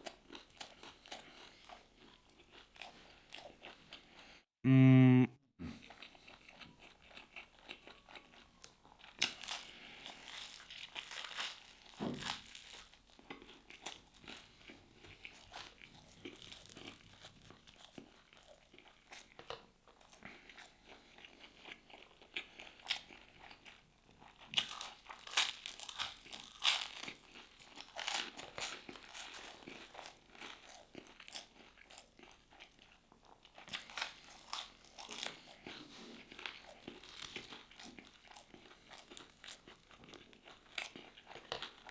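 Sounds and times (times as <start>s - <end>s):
person chewing crisp food: 0.0s - 4.4s, 5.6s - 41.9s.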